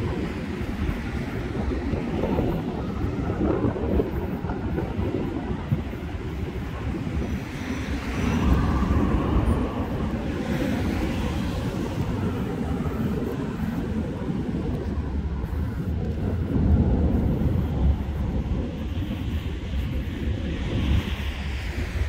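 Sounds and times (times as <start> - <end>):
cars going by: 0.0 - 22.0.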